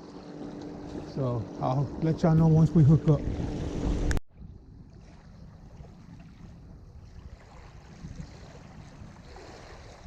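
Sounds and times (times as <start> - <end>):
wind rumbling on microphone: 0.8 - 10.0.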